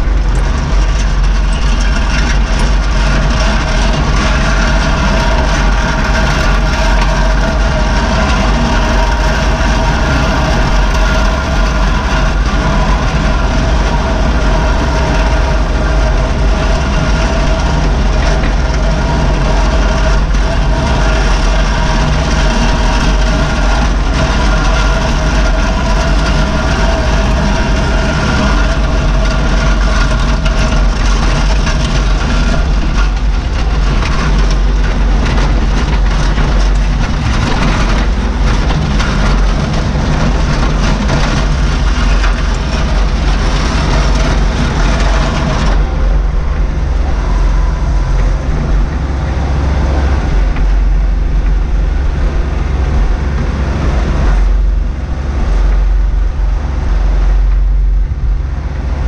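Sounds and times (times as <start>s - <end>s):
clatter: 0.0s - 59.0s
diesel engine running: 0.0s - 59.0s
steady whine: 0.0s - 59.0s.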